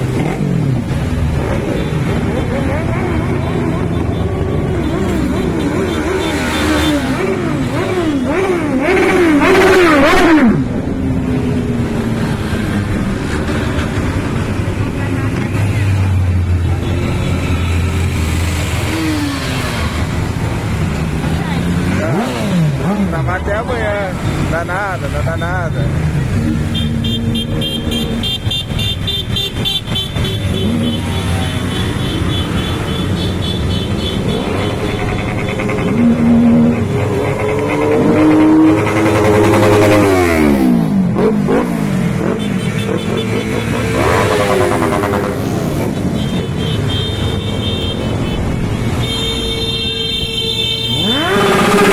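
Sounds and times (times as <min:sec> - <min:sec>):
motorcycle engine revving: 0:00.0 - 0:49.3, 0:50.3 - 0:51.9.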